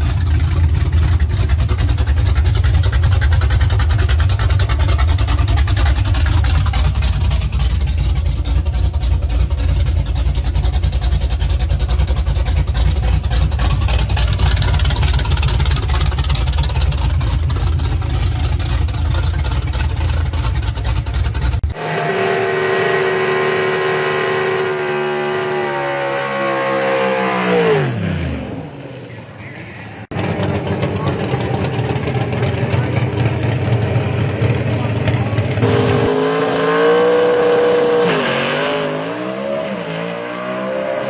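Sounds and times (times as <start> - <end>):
engine steady note winding down: 0.0 - 28.8, 30.0 - 41.0
drag car engine rumbling: 0.0 - 40.8.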